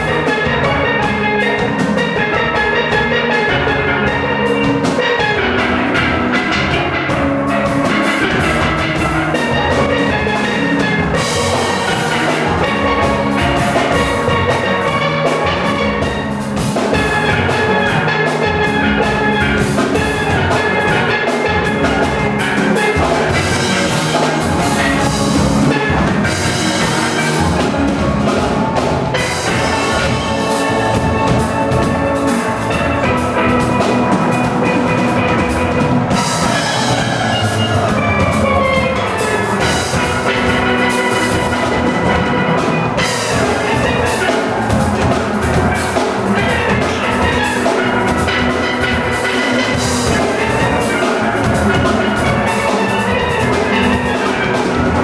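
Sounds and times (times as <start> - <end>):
drum kit beat: 0.0 - 55.0
steel pans playing melody: 0.0 - 55.0.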